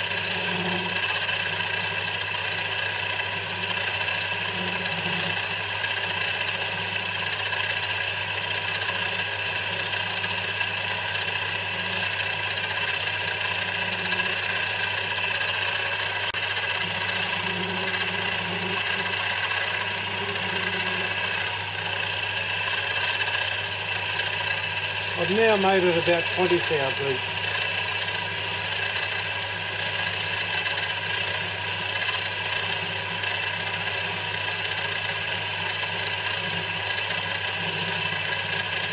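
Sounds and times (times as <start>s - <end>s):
lathe tool cutting metal: 0.0s - 38.9s
metal lathe motor humming: 0.0s - 38.9s.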